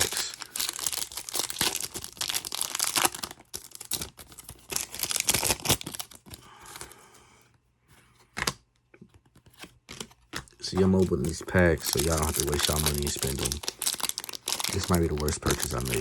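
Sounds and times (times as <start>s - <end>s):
card pack wrappers crinkling: 0.0s - 7.0s, 9.5s - 16.0s.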